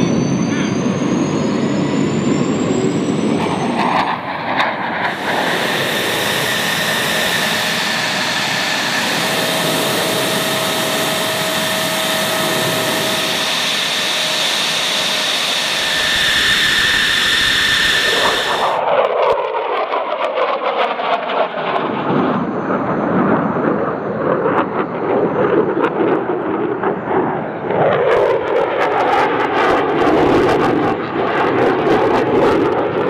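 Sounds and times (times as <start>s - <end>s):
jet engine rush with turbine whine: 0.0s - 33.0s.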